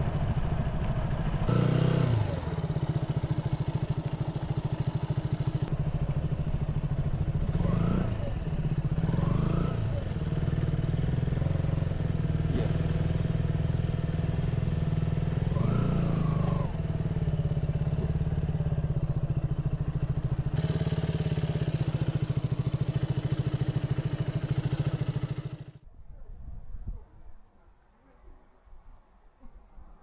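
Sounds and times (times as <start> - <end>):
motorcycle engine running: 0.0 - 25.8.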